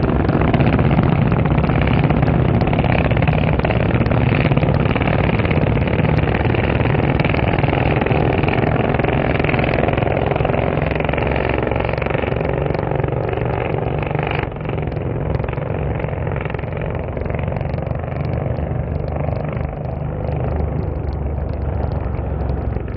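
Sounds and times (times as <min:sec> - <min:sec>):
motorcycle engines revving high: 0:00.0 - 0:22.9.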